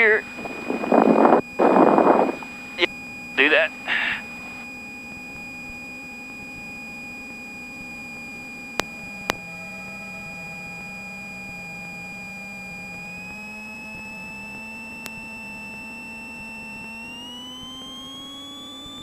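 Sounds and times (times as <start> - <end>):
electronic whine over low hum: 0.0 - 19.0.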